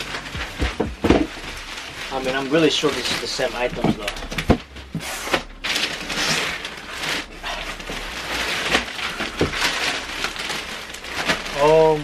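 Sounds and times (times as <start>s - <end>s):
plastic bag and paper crinkling: 0.0s - 12.0s.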